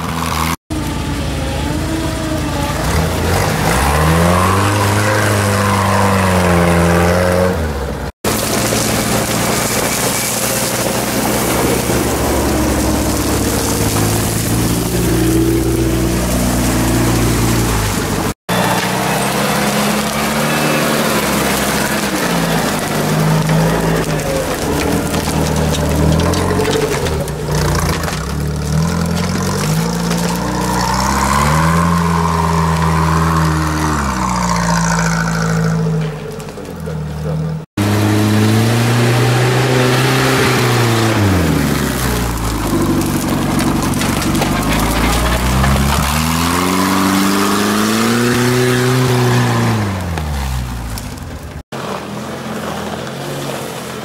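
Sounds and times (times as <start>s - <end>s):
off-road engines revving: 0.0s - 54.0s.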